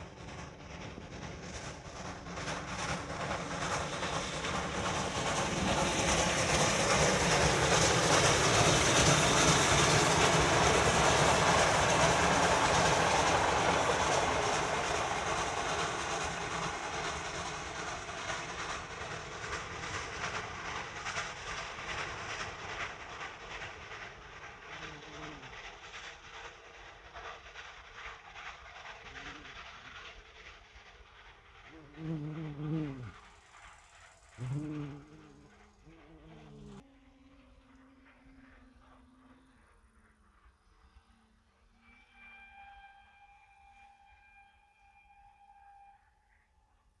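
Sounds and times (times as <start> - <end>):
steam train passing: 0.0 - 47.0.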